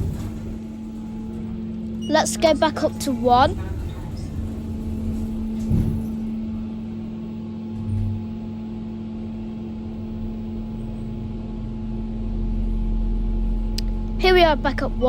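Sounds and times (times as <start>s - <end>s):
lift electrical hum: 0.0s - 15.0s
lift low rumble: 0.0s - 15.0s.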